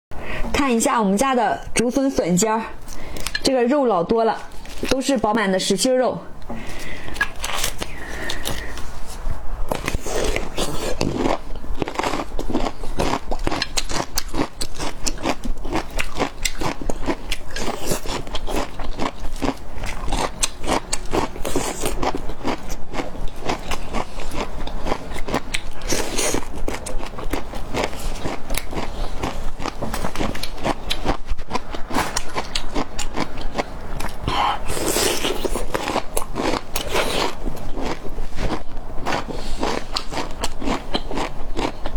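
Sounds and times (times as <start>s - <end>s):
crisp chewing crunches: 7.1s - 41.9s.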